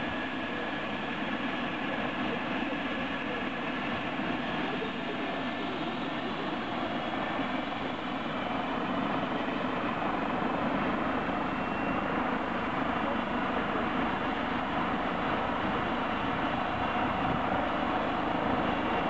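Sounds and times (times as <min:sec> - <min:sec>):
helicopter turbine engines and rotor: 0:00.0 - 0:19.0.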